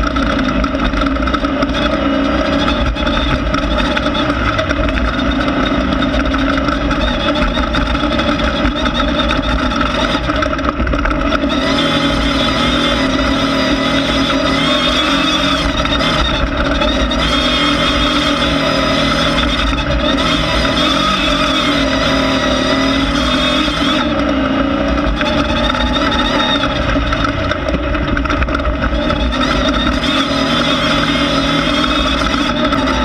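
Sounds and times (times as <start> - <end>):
race car engine running hard: 0.0 - 33.0.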